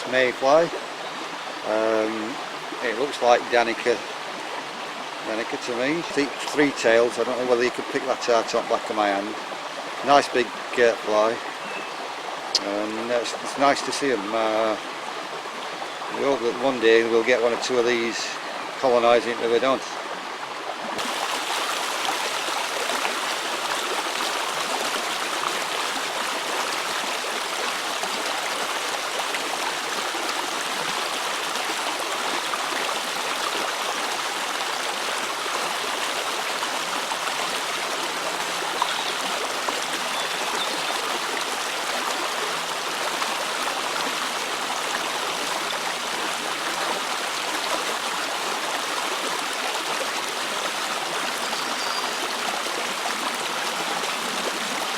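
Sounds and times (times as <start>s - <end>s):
river water rushing: 0.0s - 54.9s.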